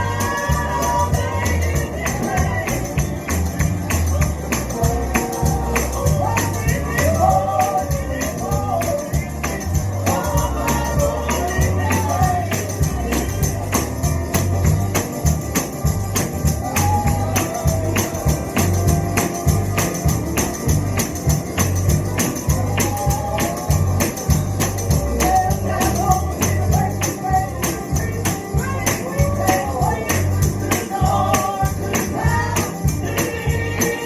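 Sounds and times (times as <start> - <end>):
live gospel singing: 0.0 - 34.0
pulsing bass line: 0.0 - 34.0
tambourine beat: 0.0 - 34.0.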